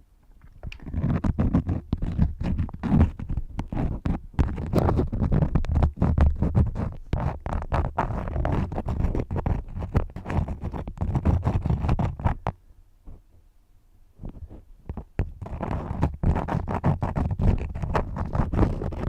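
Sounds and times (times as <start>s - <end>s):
crayons scratching on paper: 0.8s - 12.4s, 14.9s - 19.0s.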